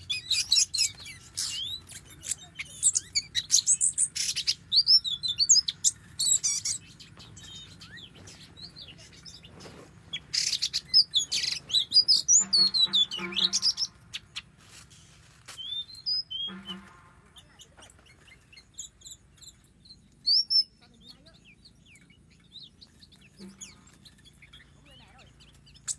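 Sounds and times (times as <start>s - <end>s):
bird singing whistled notes: 0.0s - 14.5s, 15.6s - 25.9s
harsh bird calls: 0.0s - 25.9s.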